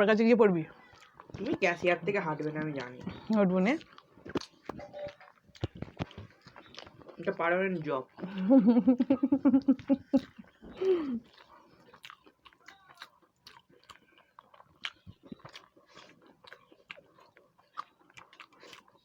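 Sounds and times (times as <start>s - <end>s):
chewing and eating: 0.4s - 19.0s.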